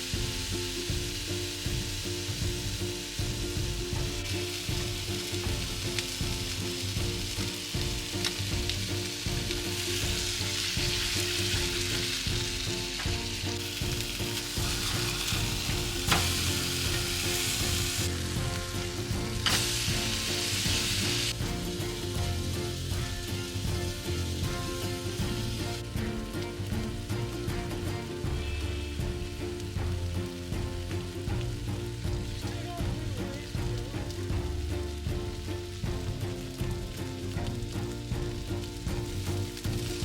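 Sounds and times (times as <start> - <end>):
food sizzling in a pan: 0.0 - 40.0
utensil tapping a pan: 0.0 - 40.0.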